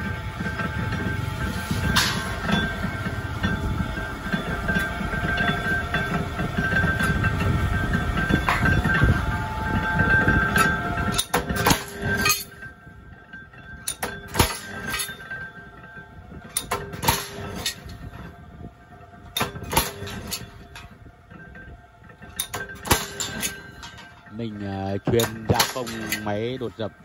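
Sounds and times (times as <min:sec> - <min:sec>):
sharp metallic clanks: 0:00.0 - 0:18.4, 0:19.3 - 0:27.0
spinning flywheel running: 0:00.0 - 0:27.0.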